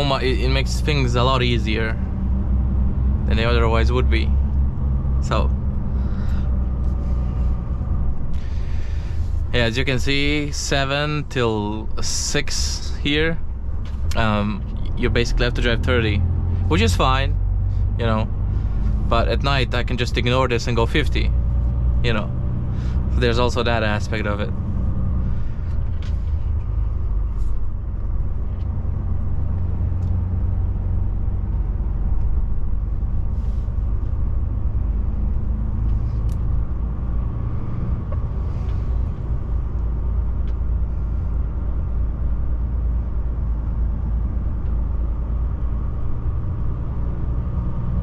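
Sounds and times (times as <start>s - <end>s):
road noise: 0.0s - 48.0s
truck diesel engine: 0.0s - 48.0s.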